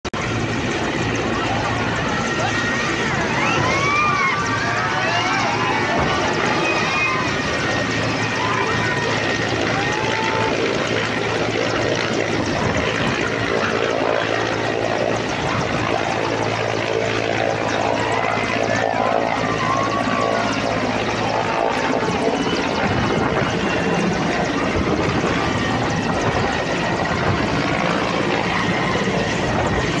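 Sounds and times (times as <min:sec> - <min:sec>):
helicopter rotor chop and turbine: 0:00.0 - 0:30.0.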